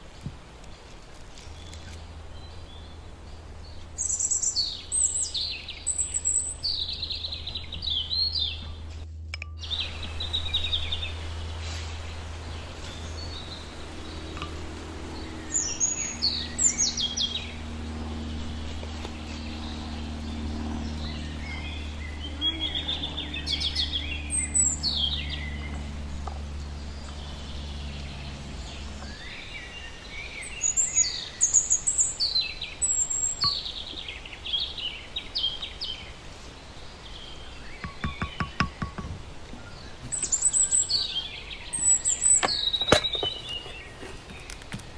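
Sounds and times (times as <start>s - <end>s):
birds chirping: 0.0s - 44.9s
steady low hum: 0.0s - 44.9s.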